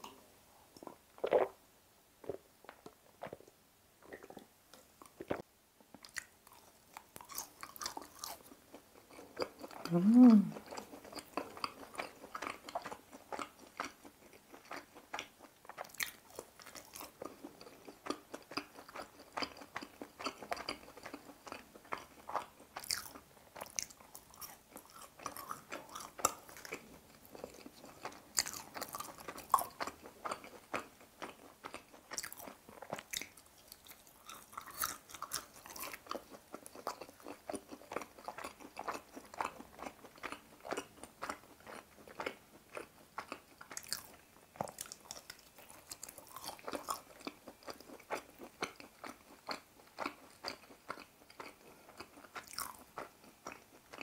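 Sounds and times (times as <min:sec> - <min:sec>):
chewing crunchy fried food: 0:02.2 - 0:54.0.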